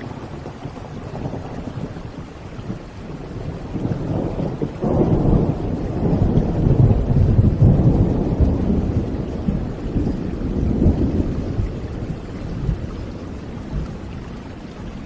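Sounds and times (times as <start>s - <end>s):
rolling thunder: 0.0s - 15.0s
steady rain: 0.0s - 15.0s.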